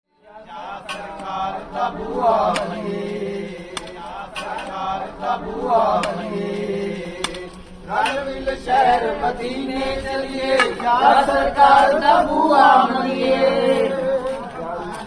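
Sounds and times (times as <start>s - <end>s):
male voices chanting: 0.3s - 15.0s.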